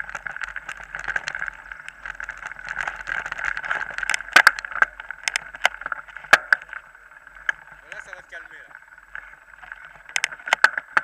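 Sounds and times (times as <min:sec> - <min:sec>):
bike rattling over dirt trail: 0:00.0 - 0:11.0.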